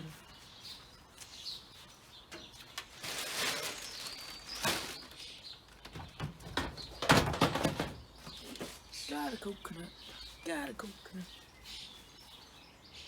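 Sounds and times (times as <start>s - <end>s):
rustling noise: 0.0s - 12.7s
garden birds chirping: 0.0s - 13.0s.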